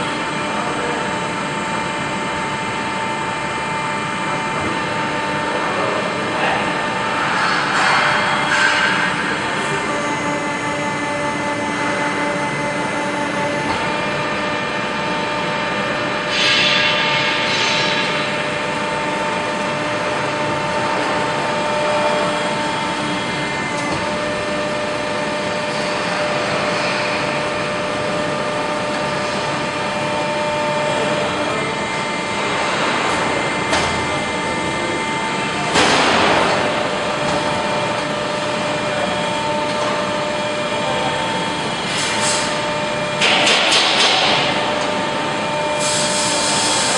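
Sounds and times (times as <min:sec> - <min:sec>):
machinery humming: 0:00.0 - 0:46.9.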